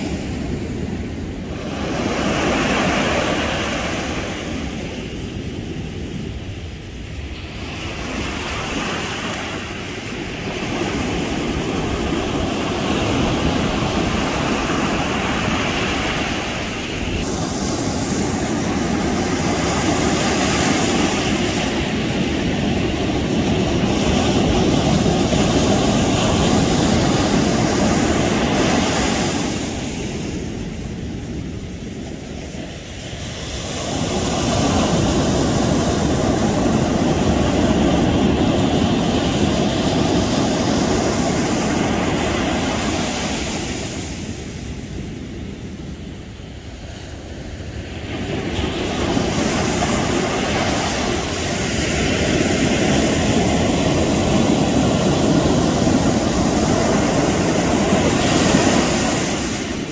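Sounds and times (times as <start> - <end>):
ocean surf breaking on sand: 0.0 - 59.9.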